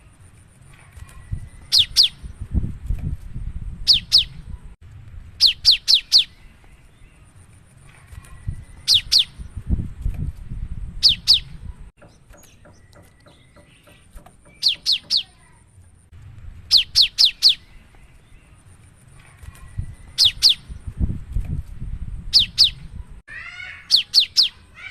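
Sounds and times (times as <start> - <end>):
low background rumble: 0.0 - 23.3.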